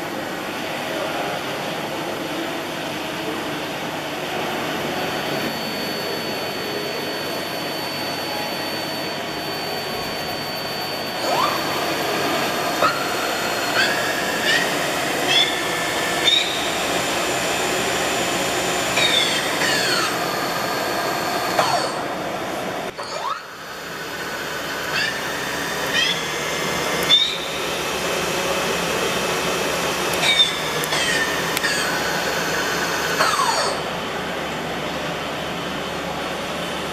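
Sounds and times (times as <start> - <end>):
milling machine spindle whine: 1.6 - 36.9.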